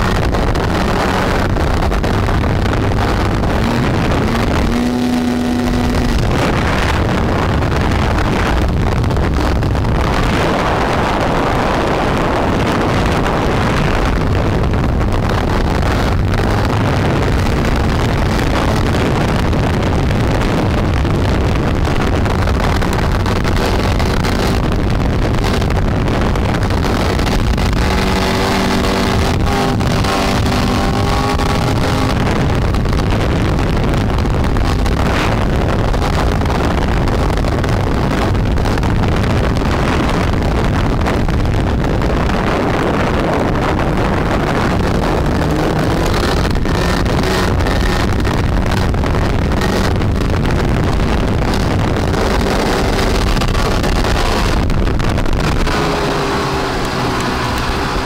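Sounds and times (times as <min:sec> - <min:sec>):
snowmobile engine running: 0:00.0 - 0:58.0
wind buffeting microphone: 0:00.0 - 0:58.0.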